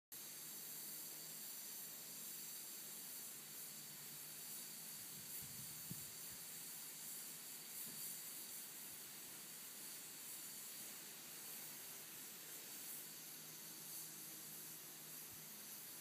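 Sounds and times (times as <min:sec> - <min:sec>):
faint background hiss: 0:00.1 - 0:16.0.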